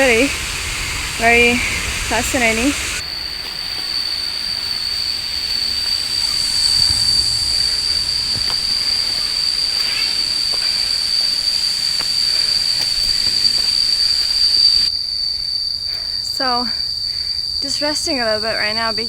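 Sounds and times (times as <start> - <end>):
high-pitched insect drone: 0.0 - 19.0
steady hiss: 0.0 - 19.0.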